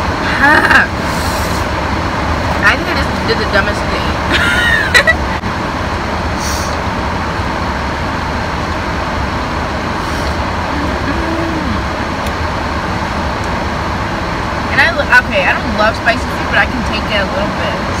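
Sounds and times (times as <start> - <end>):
car air conditioning fan hiss: 0.0 - 18.0
idling engine hum: 0.0 - 18.0.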